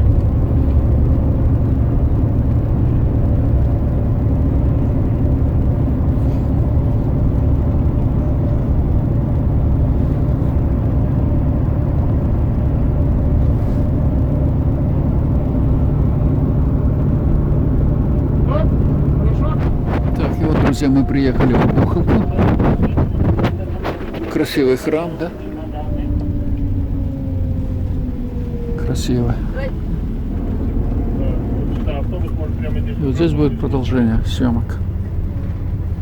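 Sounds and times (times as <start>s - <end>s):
bus engine rumble: 0.0s - 36.0s.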